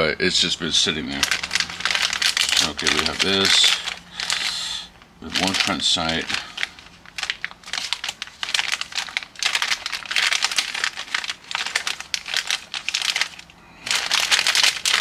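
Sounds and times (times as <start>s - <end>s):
plastic bags crinkling: 1.0s - 15.0s.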